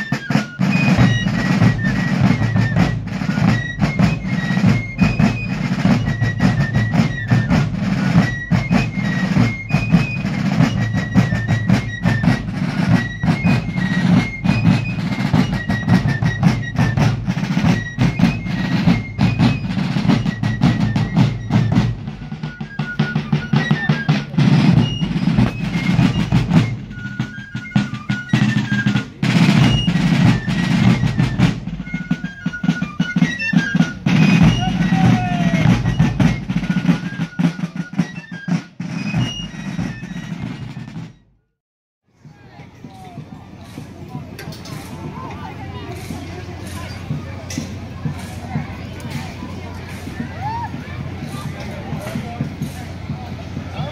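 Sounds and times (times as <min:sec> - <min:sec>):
snare drum rolls: 0:00.0 - 0:41.3, 0:42.9 - 0:53.9
fifes playing a march melody: 0:00.0 - 0:41.4, 0:42.9 - 0:53.9.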